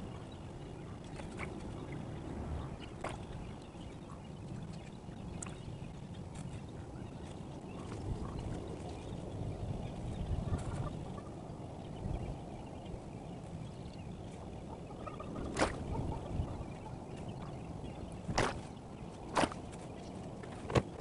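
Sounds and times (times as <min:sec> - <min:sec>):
steady low rumble: 0:00.0 - 0:20.6.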